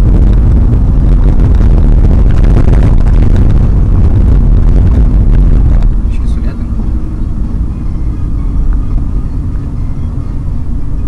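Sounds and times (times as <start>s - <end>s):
drone motor noise: 0.0s - 11.0s
wind buffeting microphone: 0.0s - 11.0s.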